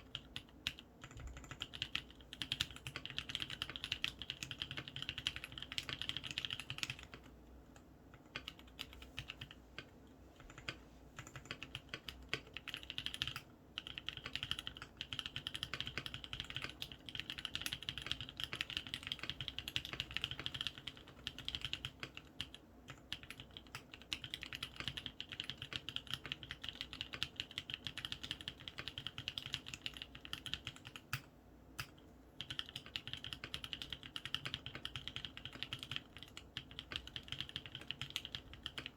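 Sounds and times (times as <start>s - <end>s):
mechanical keyboard typing: 0.0s - 7.3s, 8.1s - 38.9s.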